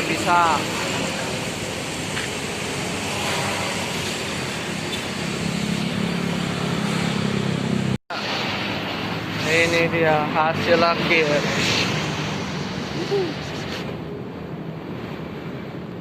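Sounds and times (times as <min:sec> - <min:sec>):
traffic noise with engine hum: 0:00.0 - 0:16.0.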